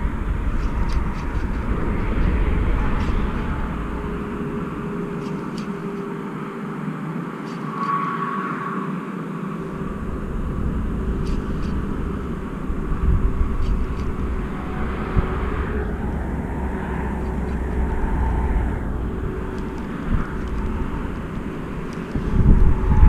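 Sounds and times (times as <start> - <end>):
low rumble: 0.0 - 6.2, 9.6 - 23.0
faint steady hum: 0.0 - 23.0.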